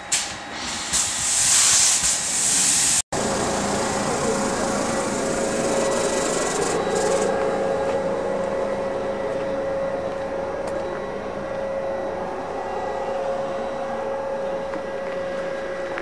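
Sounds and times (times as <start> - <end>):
train hum with hiss: 0.0 - 16.0.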